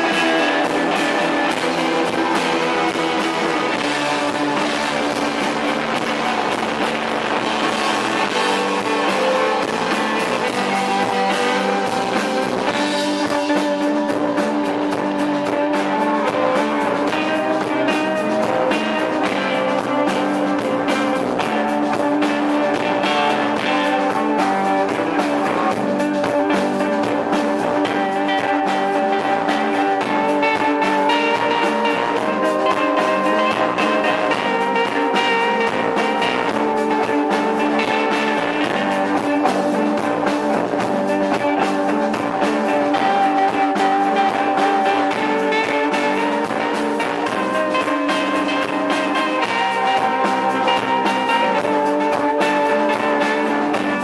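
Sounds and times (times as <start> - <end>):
electric guitar: 0.0 - 54.0
steady drum beat: 0.0 - 54.0.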